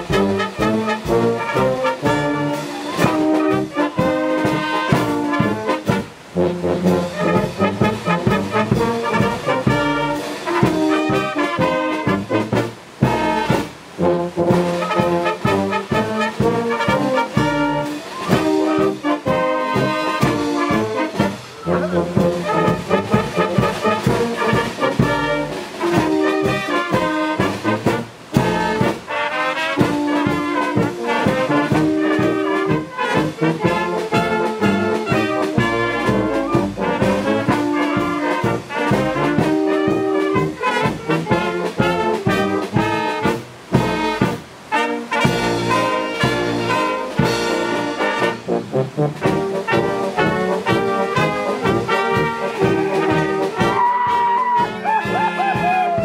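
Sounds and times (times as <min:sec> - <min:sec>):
wind band playing a tune: 0:00.0 - 0:56.0.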